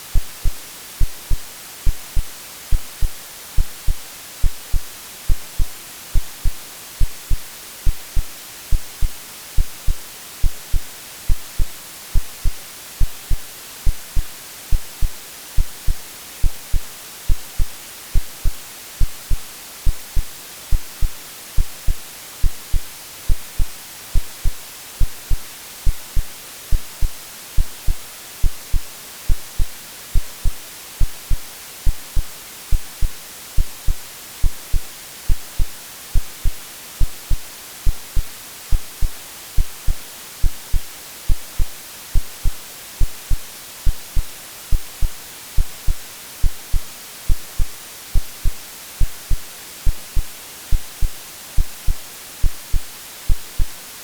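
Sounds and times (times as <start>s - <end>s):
white noise hiss: 0.0s - 54.0s
synthetic heartbeat thumps: 0.1s - 53.7s.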